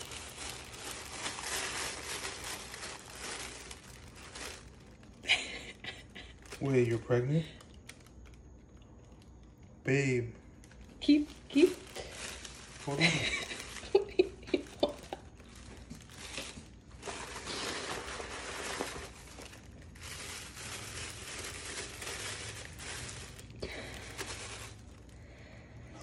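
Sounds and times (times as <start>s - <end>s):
tissue paper rustling: 0.0s - 8.1s, 10.6s - 25.2s.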